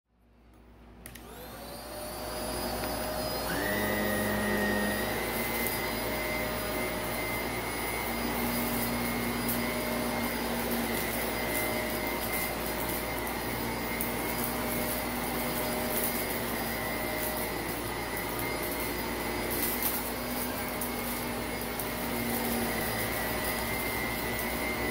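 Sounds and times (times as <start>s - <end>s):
vacuum cleaner motor whine: 0.4s - 24.9s
grit crackling in vacuum: 1.6s - 24.9s.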